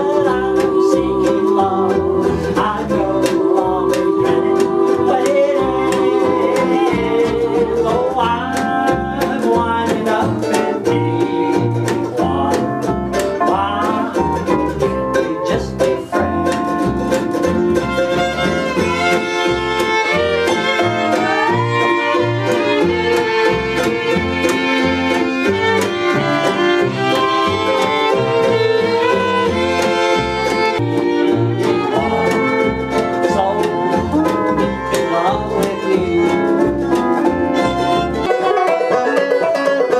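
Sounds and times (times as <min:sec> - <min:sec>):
bluegrass string band playing: 0:00.0 - 0:39.9.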